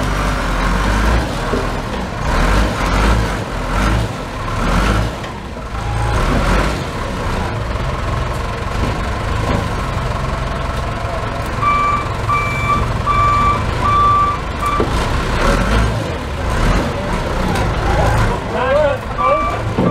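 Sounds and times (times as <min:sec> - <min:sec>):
truck engine running: 0:00.0 - 0:19.9.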